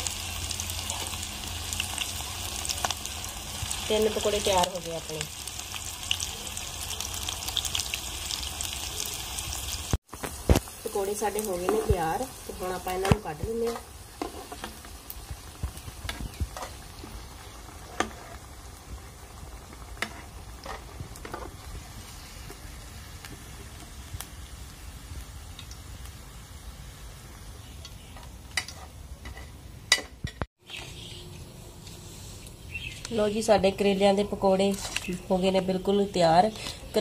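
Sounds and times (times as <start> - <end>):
food sizzling in oil: 0.0 - 29.6, 32.6 - 37.0.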